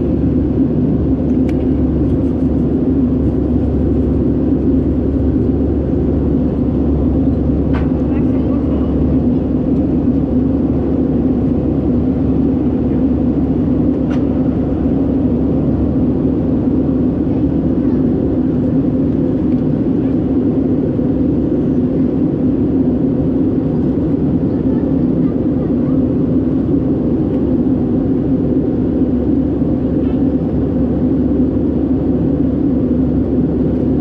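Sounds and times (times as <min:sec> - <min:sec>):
jet engine cabin drone: 0:00.0 - 0:34.0.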